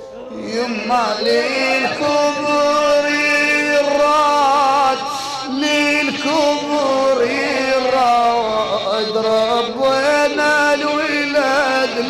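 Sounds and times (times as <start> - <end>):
man chanting a lament: 0.0 - 12.0.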